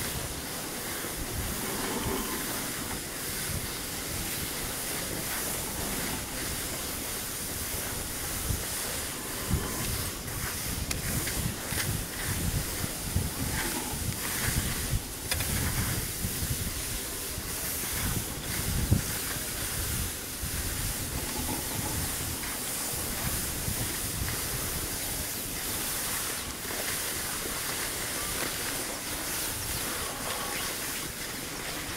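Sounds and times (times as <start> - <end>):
skis sliding over snow: 0.0 - 31.9
wind rumble on microphone: 0.0 - 31.9.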